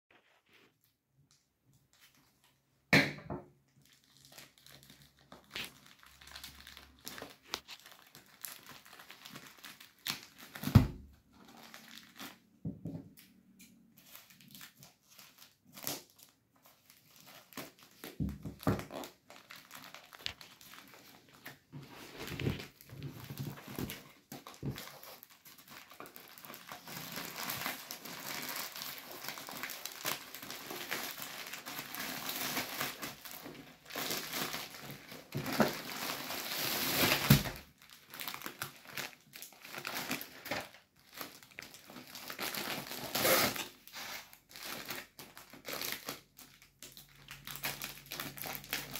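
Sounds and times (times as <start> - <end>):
plastic mailer bag crinkling: 3.8 - 12.4, 13.8 - 48.9
bag tearing open: 3.9 - 12.4, 13.9 - 48.9.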